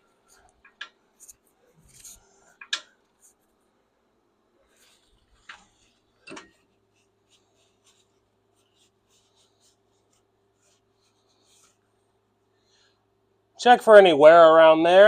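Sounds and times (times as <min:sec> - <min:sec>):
faint scratching and handling: 0:00.0 - 0:03.8, 0:04.6 - 0:13.2.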